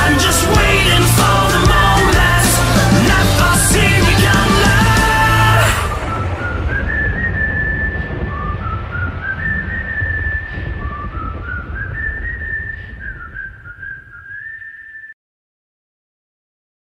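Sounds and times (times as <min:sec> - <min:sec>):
whistled melody over heavy bass: 0:00.0 - 0:15.2.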